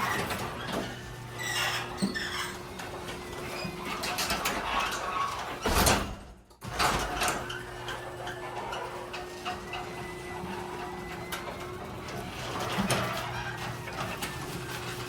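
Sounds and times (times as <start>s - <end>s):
door opener motor humming: 0.0s - 15.0s
garage door moving: 0.0s - 15.0s.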